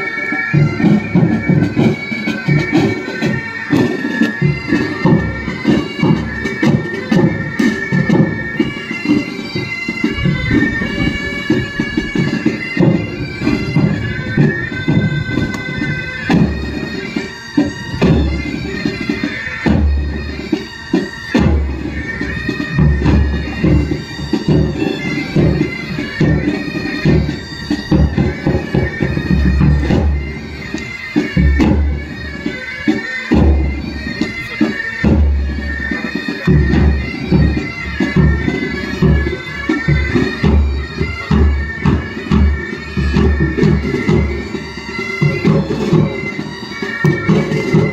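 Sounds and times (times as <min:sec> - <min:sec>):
bagpipes playing melody: 0:00.0 - 0:47.9
marching drums beating: 0:00.0 - 0:47.9.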